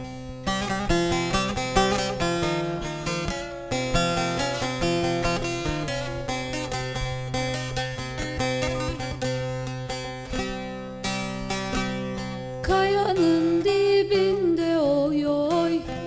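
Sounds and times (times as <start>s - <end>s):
long-necked lute plucked melody: 0.0s - 16.0s.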